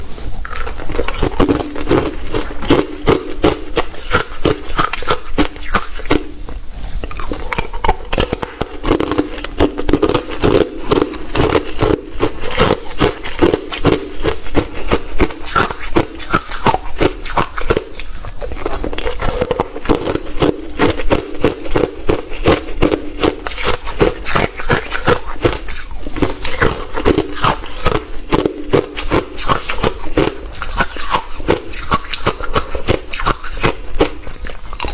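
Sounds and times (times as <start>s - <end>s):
chewing crunching ice: 0.0s - 34.9s.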